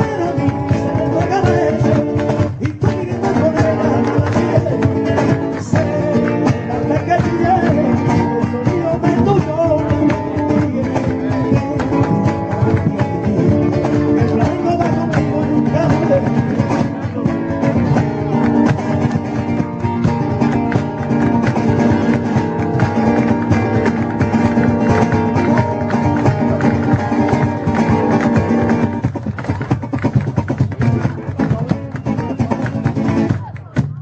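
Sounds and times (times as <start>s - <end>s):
flamenco acoustic guitar music: 0.0s - 34.0s.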